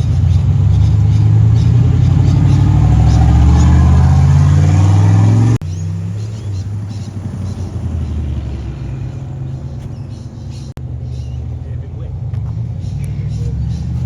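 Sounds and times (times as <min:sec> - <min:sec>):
loud car engine revving: 0:00.0 - 0:14.0
quiet engine rumble: 0:00.0 - 0:14.0.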